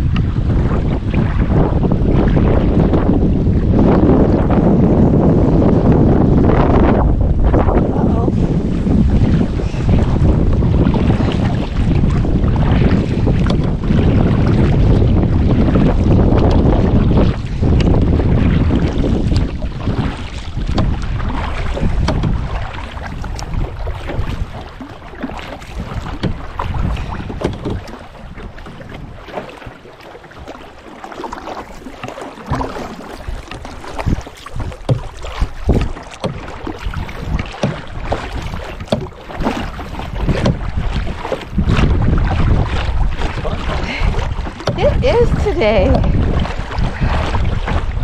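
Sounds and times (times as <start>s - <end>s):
paddle splashing water: 0.0s - 48.0s
wind buffeting microphone: 0.0s - 48.0s.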